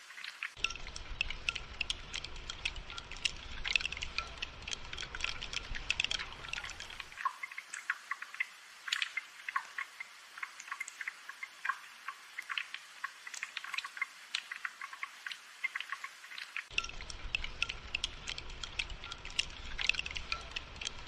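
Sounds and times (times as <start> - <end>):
rain hiss: 0.0 - 21.0
raindrops dripping and tapping: 0.0 - 21.0.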